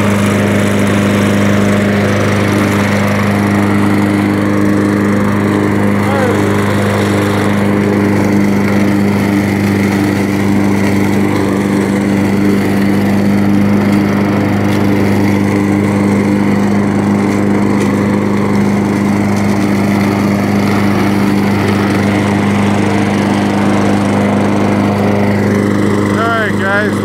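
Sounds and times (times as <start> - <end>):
lawn mower running: 0.0 - 27.0.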